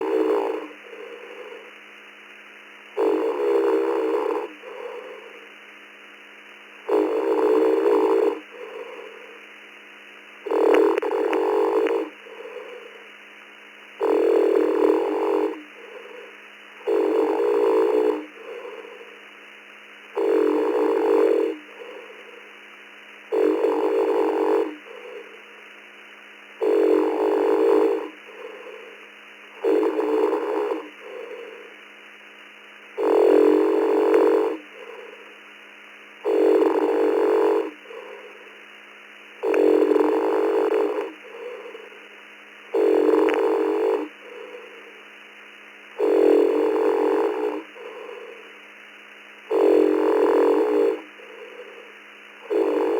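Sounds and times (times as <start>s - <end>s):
person snoring over radio: 0.0s - 52.9s.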